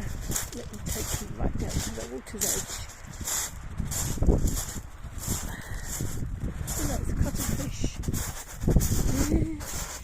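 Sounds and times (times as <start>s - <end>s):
footsteps crunching on shingle: 0.0s - 10.0s
wind buffeting microphone: 0.0s - 10.0s.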